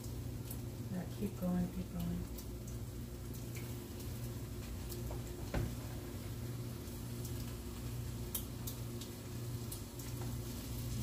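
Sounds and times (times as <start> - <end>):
low steady hum: 0.0 - 11.0
ticks and crackles from pot: 0.0 - 11.0.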